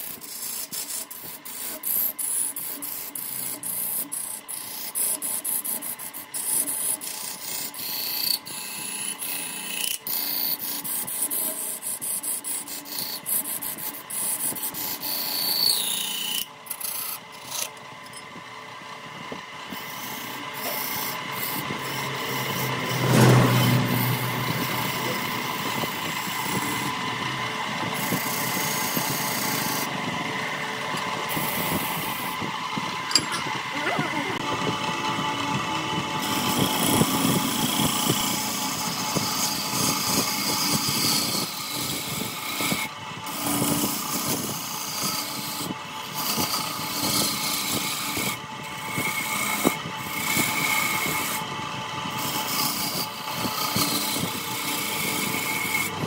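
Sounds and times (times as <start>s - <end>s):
tool rasping on spinning wood: 0.0s - 56.0s.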